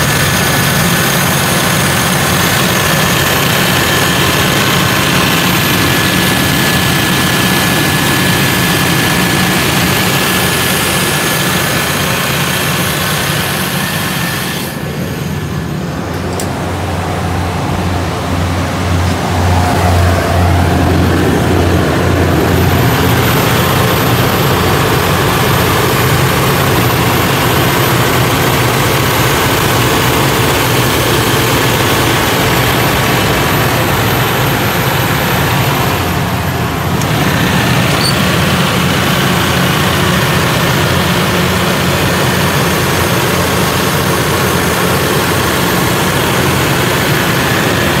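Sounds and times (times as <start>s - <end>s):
diesel generator running: 0.0s - 48.0s.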